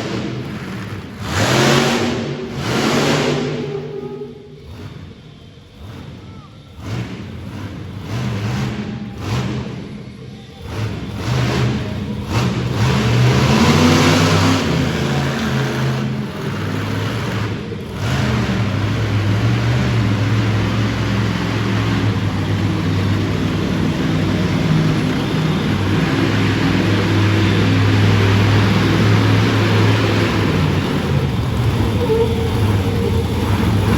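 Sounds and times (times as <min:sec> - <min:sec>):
monster truck engine revving: 0:00.0 - 0:33.9.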